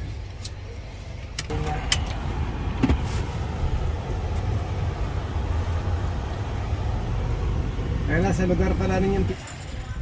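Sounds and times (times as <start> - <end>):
car engine rumble: 0.0 - 10.0.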